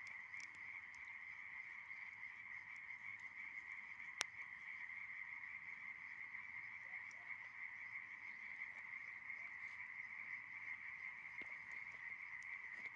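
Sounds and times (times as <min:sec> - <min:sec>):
frogs trilling in chorus: 0:00.0 - 0:12.9.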